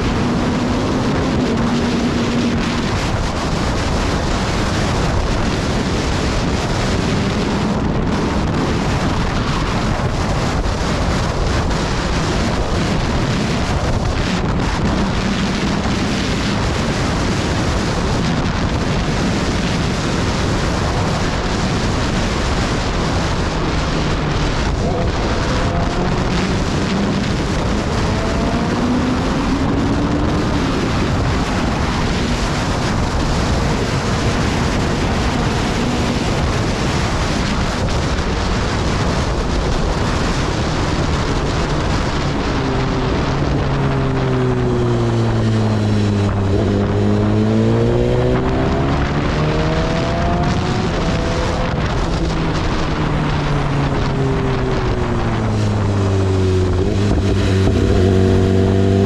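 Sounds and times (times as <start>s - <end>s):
motorcycle engine: 0.0s - 59.0s
wind noise on microphone: 0.0s - 59.0s.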